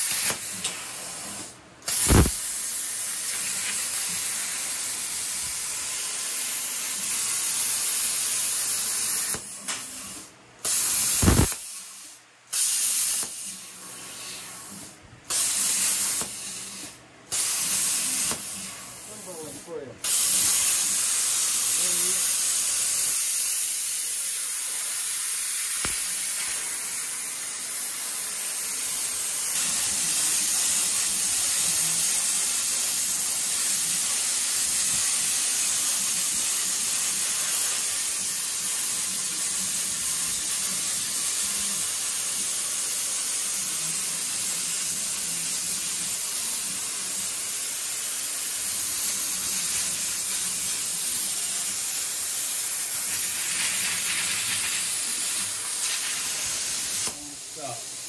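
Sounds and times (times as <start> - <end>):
plasma cutter hissing: 0.0 - 58.0.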